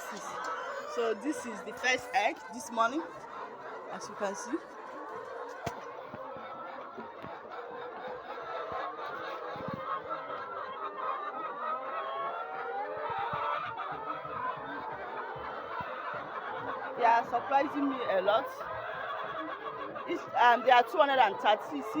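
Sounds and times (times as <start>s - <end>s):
hens clucking and cackling: 0.0s - 22.0s.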